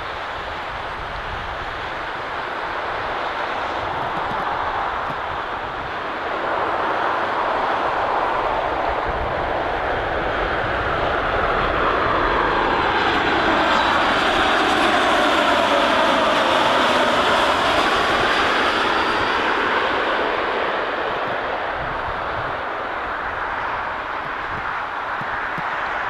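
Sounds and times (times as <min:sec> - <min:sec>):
jet engines passing overhead: 0:00.0 - 0:26.0.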